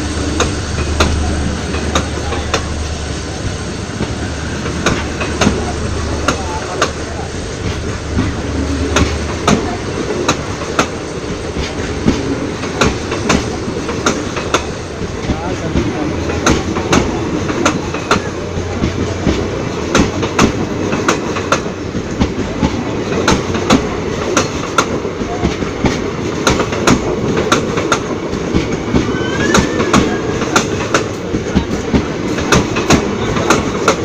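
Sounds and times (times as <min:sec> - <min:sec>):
continuous train rumble: 0:00.0 - 0:34.0
train wheels clicking over rail joints: 0:00.0 - 0:34.0.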